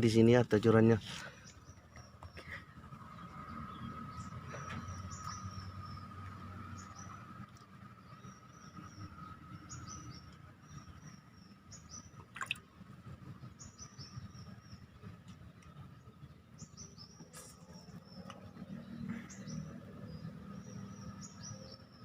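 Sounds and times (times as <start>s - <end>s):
bird chirping: 0.7s - 12.5s, 13.3s - 22.0s.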